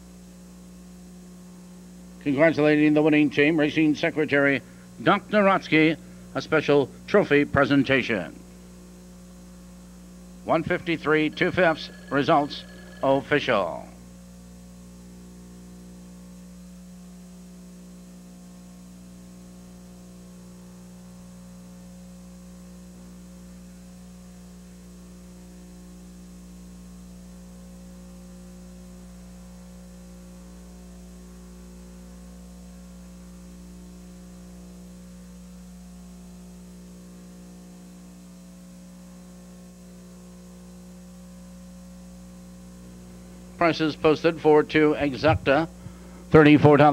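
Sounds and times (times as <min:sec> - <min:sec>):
electrical mains hum: 0:00.0 - 0:46.9.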